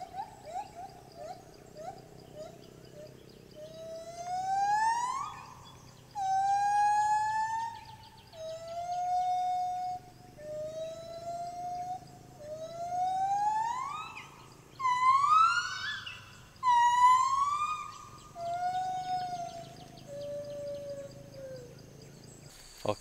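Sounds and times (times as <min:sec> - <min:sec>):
gibbon whooping call: 0:00.0 - 0:21.8
insects buzzing faintly: 0:00.0 - 0:23.0.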